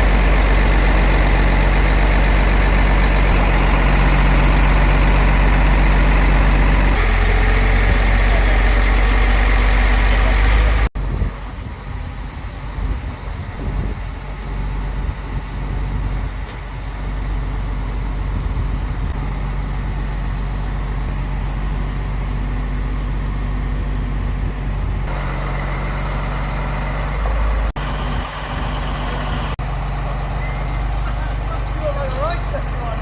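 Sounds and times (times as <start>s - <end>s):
truck engine running under load: 0.0s - 33.0s.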